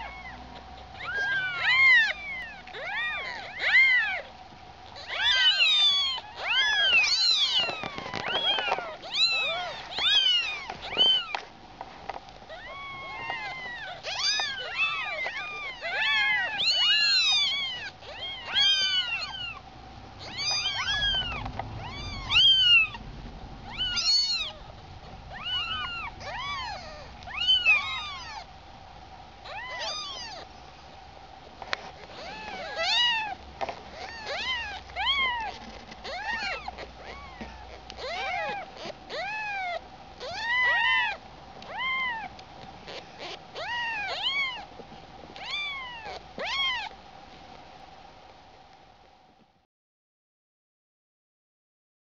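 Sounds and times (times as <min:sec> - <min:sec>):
kittens mewing: 0:00.0 - 0:11.5, 0:12.4 - 0:30.6, 0:31.4 - 0:47.0
faint steady hum: 0:00.0 - 0:49.6.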